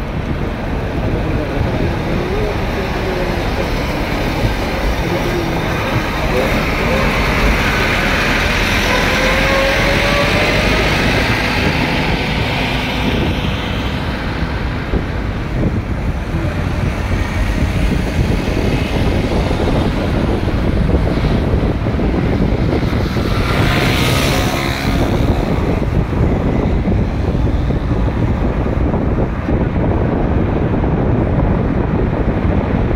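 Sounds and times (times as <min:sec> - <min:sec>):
vehicle engine and road noise: 0:00.0 - 0:32.9.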